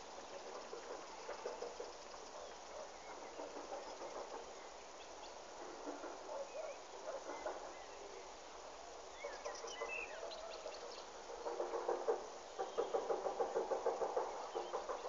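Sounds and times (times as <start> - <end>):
birds chirping: 0.0 - 15.0
outdoor background noise: 0.0 - 15.0.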